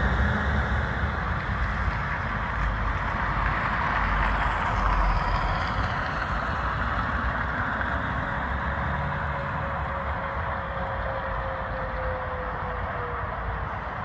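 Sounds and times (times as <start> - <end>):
slow road traffic: 0.0 - 14.0.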